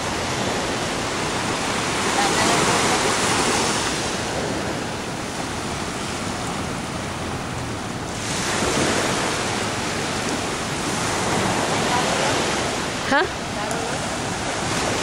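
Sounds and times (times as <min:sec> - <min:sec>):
waves breaking on sandy beach: 0:00.0 - 0:15.0.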